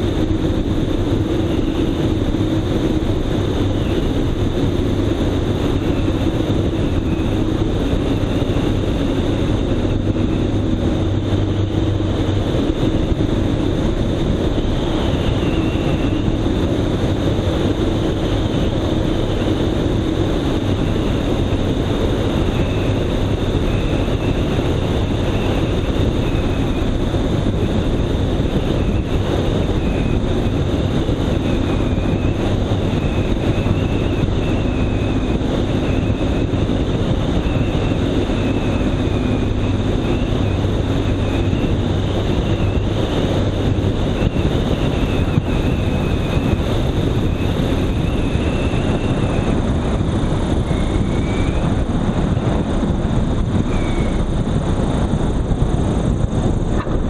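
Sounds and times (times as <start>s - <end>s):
small airplane engine droning: 0.0s - 57.0s
wind rush on microphone: 0.0s - 57.0s.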